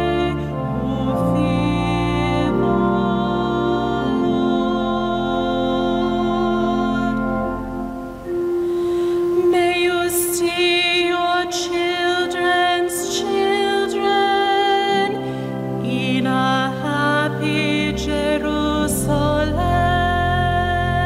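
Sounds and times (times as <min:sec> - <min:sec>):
church organ chords: 0:00.0 - 0:21.0
woman singing with vibrato: 0:00.0 - 0:21.0.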